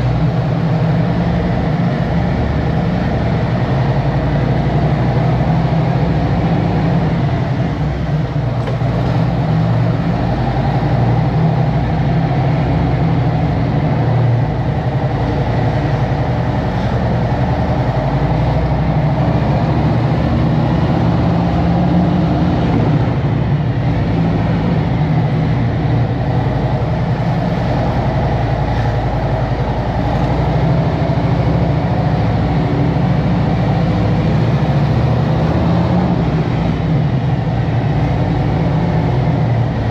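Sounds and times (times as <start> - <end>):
motorcycle engine low rumble: 0.0 - 39.9.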